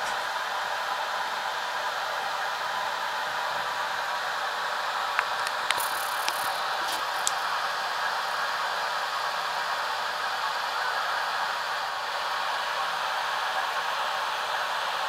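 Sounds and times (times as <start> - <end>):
ultrasound machine hiss: 1.4 - 15.0.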